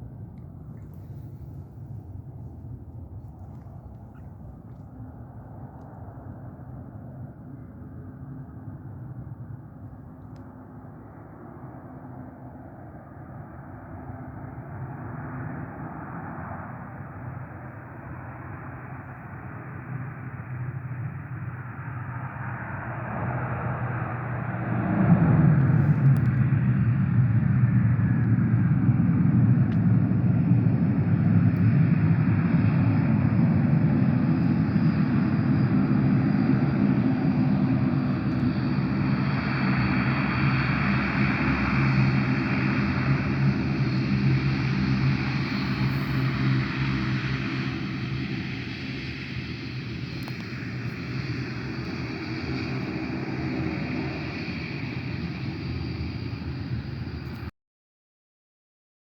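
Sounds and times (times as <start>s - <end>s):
airliner engines rumbling: 0.0s - 57.5s.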